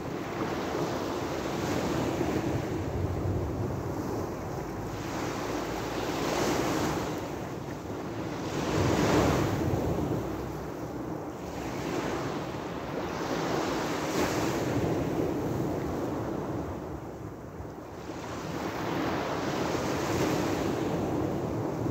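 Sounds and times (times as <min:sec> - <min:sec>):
wind on microphone: 0:00.0 - 0:21.9.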